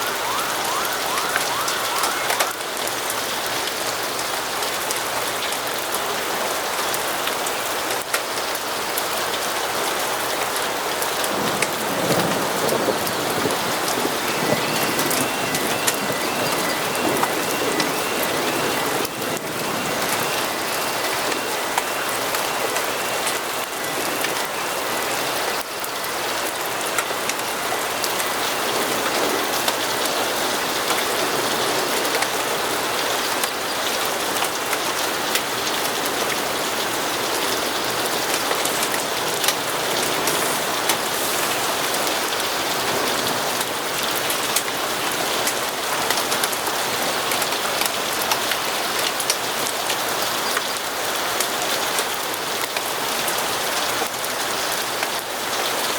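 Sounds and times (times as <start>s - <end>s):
heavy rain on hard surface: 0.0s - 55.9s.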